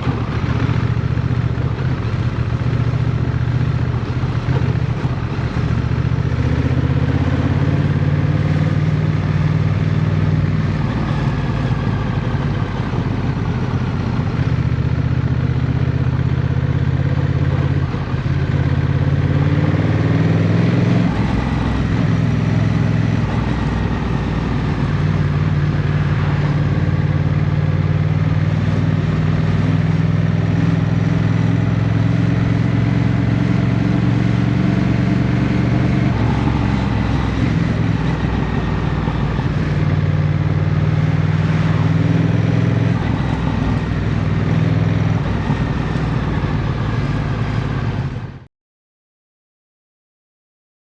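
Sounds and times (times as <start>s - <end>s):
motorcycle engine running: 0.0s - 48.5s.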